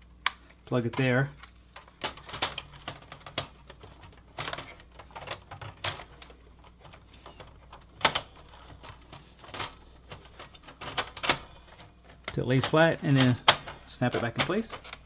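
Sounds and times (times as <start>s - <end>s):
computer parts clicking and knocking: 0.8s - 15.0s.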